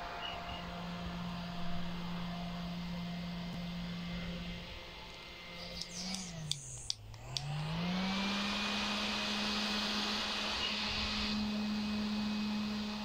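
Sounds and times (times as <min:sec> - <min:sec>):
handheld fan motor hum: 0:00.0 - 0:13.0.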